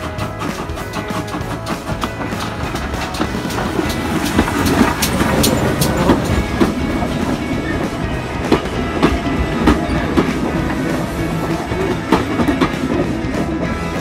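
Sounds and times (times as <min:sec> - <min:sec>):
train running rumble: 0:00.0 - 0:14.0
wheels clacking over rail joints: 0:00.0 - 0:14.0.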